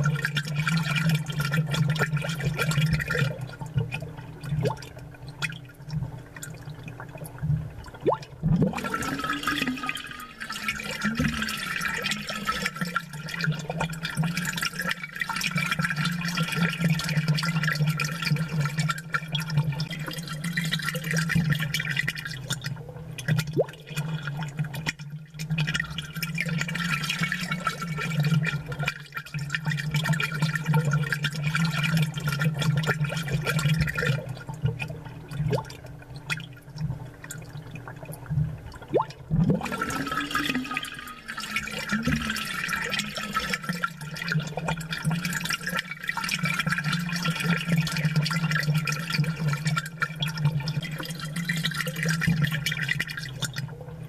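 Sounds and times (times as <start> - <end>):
aquarium bubbling: 0.0 - 54.0.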